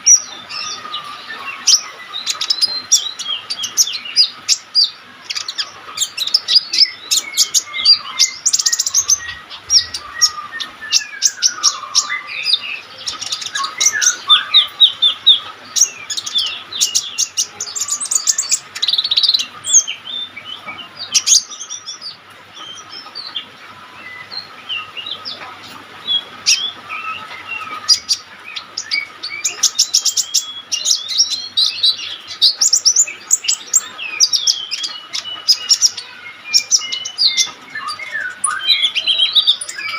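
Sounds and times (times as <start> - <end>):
bird twittering and trilling: 0.0 - 39.9.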